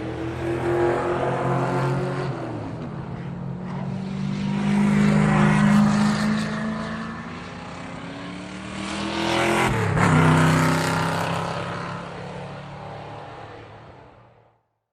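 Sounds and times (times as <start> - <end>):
sports car engine passing: 0.0 - 14.2.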